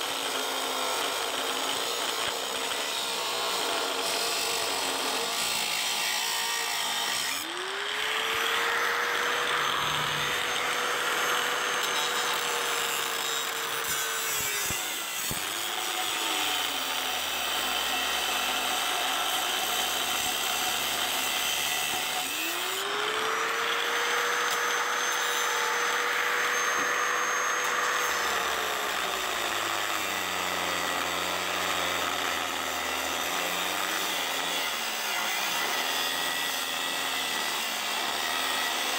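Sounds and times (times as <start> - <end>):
angle grinder motor whining: 0.0 - 38.9
cutoff wheel grinding metal: 0.9 - 38.9.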